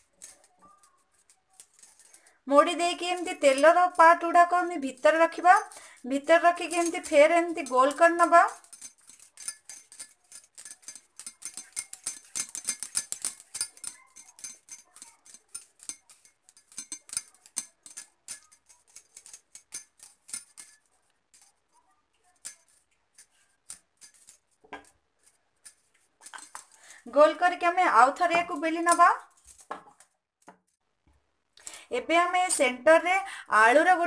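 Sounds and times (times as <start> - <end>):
bangles clinking and jingling: 0.0 - 30.8, 31.6 - 34.0.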